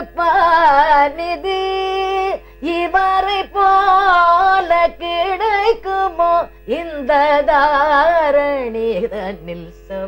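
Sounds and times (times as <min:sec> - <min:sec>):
woman singing devotional song: 0:00.0 - 0:10.0.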